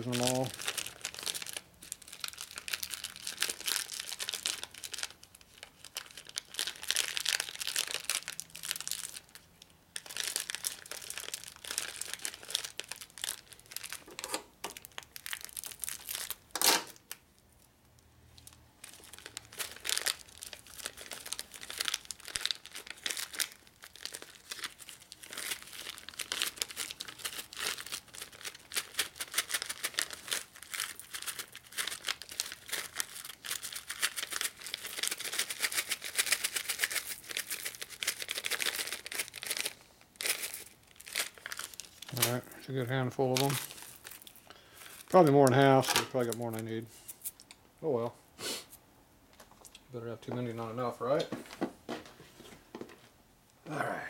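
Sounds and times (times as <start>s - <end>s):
plastic bag crinkling: 0.0s - 17.7s, 18.4s - 47.5s.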